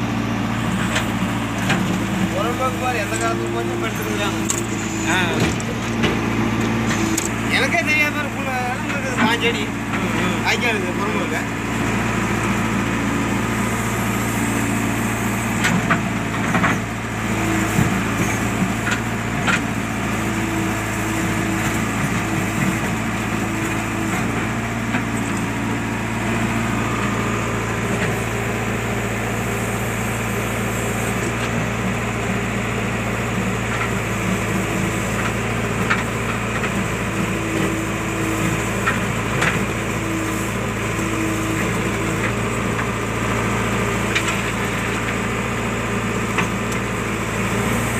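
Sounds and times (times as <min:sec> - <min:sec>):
backhoe diesel engine running: 0:00.0 - 0:47.9.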